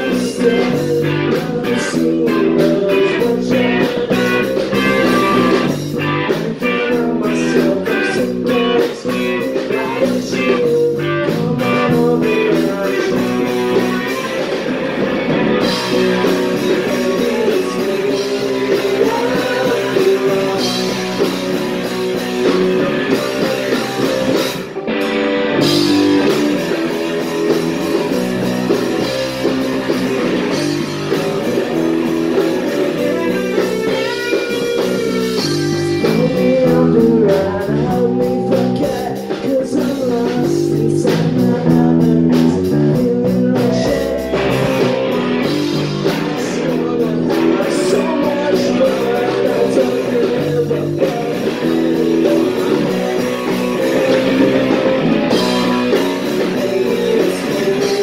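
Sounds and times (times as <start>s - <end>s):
punk rock band playing live: 0.0s - 58.0s.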